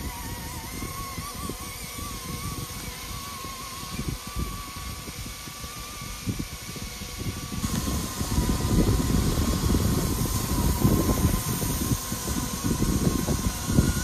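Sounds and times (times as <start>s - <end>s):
low rotor rumble: 0.0s - 14.0s
rc helicopter motors whining: 0.0s - 14.0s.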